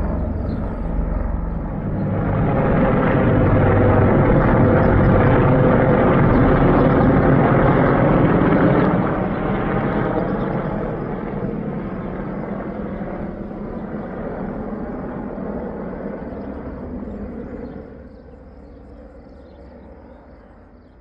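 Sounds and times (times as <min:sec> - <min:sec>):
helicopters flying over: 0:00.0 - 0:21.0.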